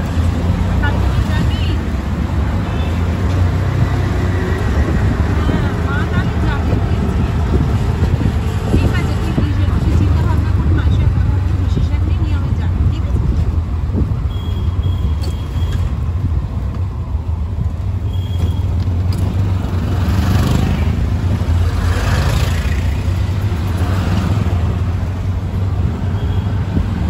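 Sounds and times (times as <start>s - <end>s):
auto-rickshaw passing: 0.0s - 27.0s
traffic rumble: 0.0s - 27.0s.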